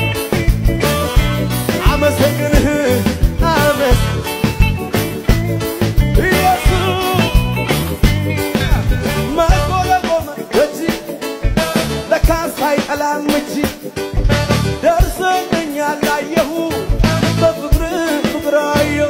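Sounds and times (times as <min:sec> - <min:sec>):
upbeat gospel song: 0:00.0 - 0:19.0.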